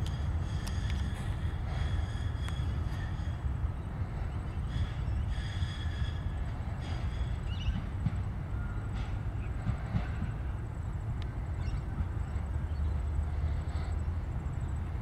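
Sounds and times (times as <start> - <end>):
tram rumbling past: 0.0 - 15.0.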